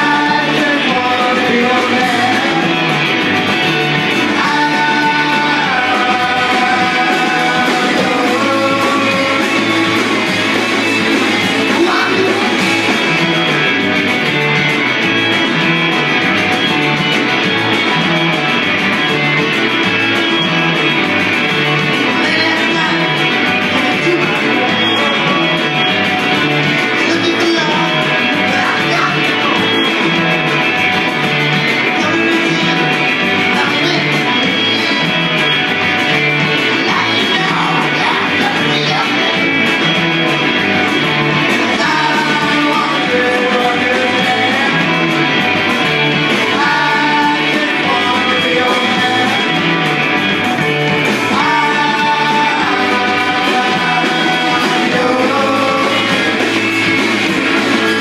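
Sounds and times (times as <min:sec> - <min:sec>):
person singing: 0:00.0 - 0:14.1, 0:21.6 - 0:31.0, 0:31.6 - 0:35.6, 0:36.4 - 0:50.3, 0:50.9 - 0:58.0
electric guitar: 0:00.0 - 0:58.0
steady drum beat: 0:00.0 - 0:58.0.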